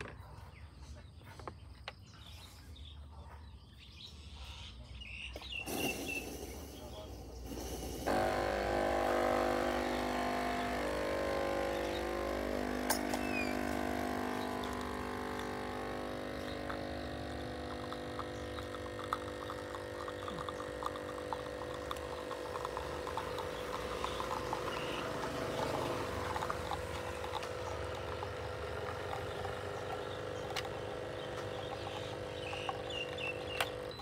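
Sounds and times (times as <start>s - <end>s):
coffee machine pump humming: 5.4s - 34.0s
coffee streaming into cup: 5.7s - 34.0s.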